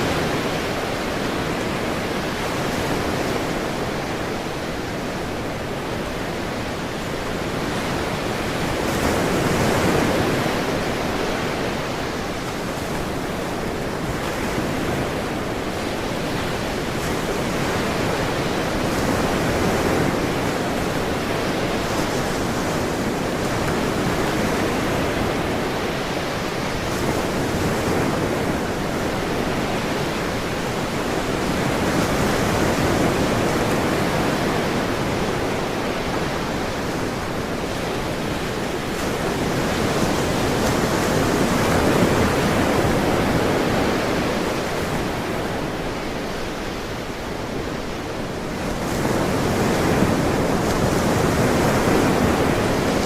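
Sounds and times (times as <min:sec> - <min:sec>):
ocean waves washing ashore: 0:00.0 - 0:53.0.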